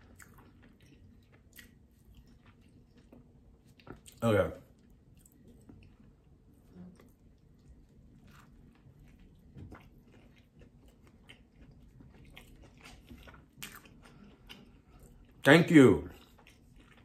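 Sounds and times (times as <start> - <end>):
crunchy chewing: 0.0 - 15.5, 16.1 - 17.0.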